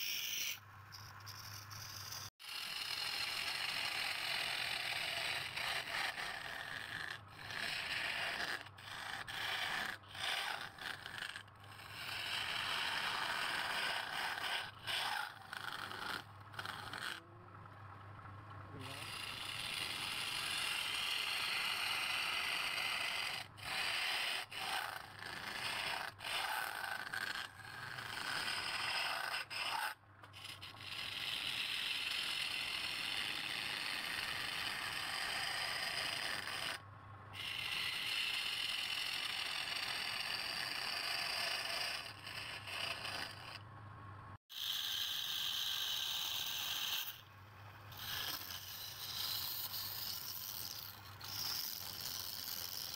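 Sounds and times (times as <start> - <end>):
lathe tool scraping wood: 0.0 - 17.2, 18.8 - 36.8, 37.4 - 43.6, 47.9 - 52.9.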